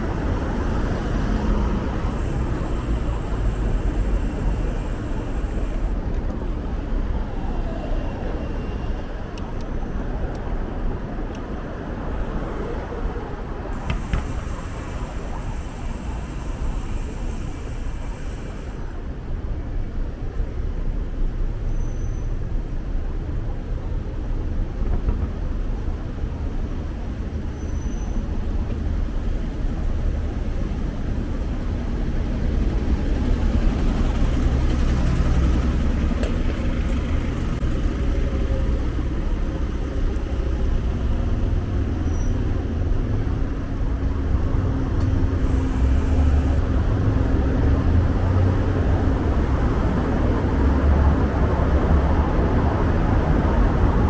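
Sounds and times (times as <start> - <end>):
road traffic rumble: 0.0 - 21.4, 28.1 - 54.0.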